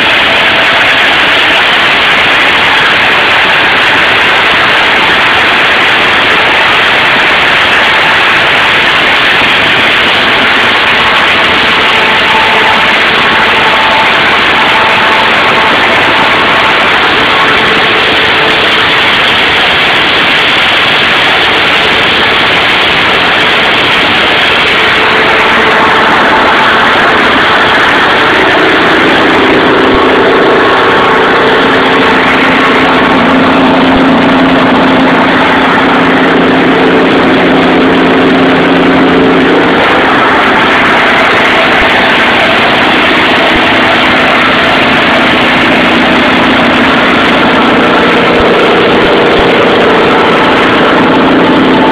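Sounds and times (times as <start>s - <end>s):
diesel generator engine running: 0.0s - 51.9s.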